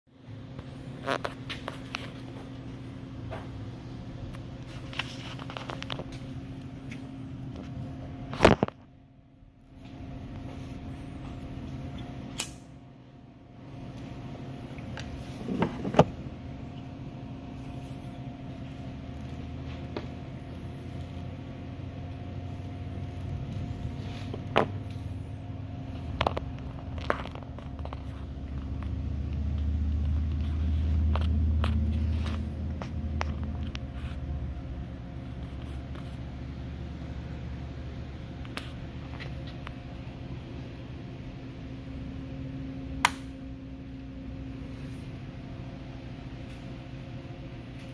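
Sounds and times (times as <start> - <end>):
blower fan humming: 0.1 - 47.9.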